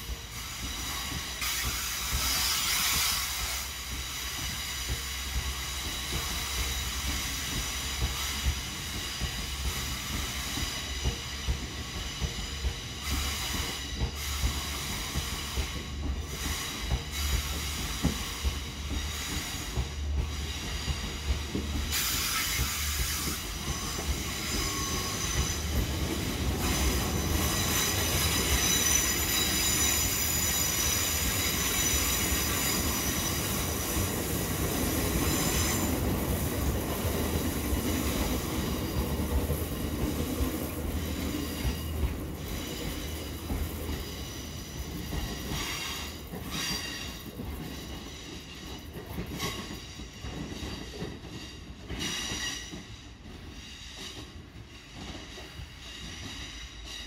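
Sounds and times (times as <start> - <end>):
train rumbling: 0.0 - 57.0
train wheels squealing: 0.0 - 57.0.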